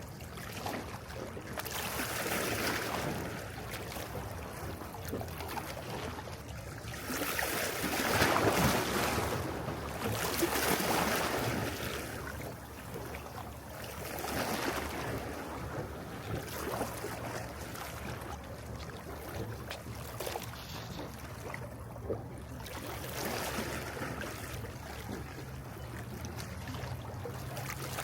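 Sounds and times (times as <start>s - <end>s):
sea waves washing ashore: 1.6s - 28.0s.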